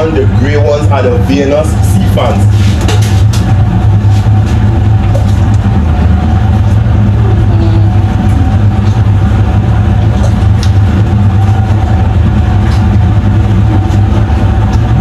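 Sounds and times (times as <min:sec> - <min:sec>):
boat engine drone: 0:00.0 - 0:15.0
thin steady whine: 0:00.0 - 0:15.0.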